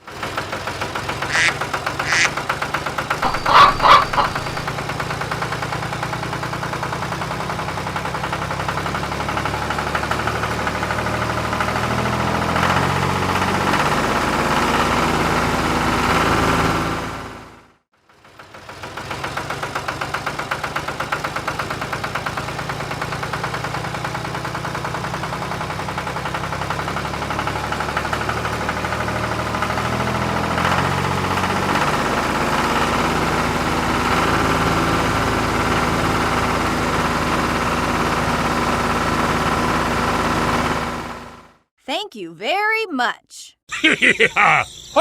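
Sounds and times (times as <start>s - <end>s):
small engine idling: 0.0s - 16.0s, 18.0s - 41.3s.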